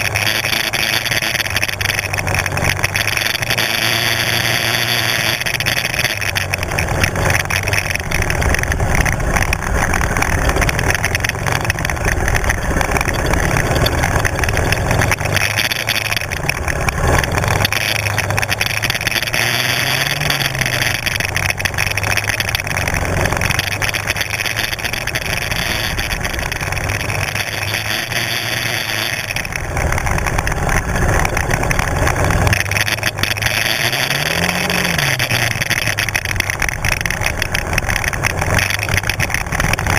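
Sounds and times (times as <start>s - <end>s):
quad bike engine running: 0.0s - 39.9s
steady rushing noise: 0.0s - 39.9s.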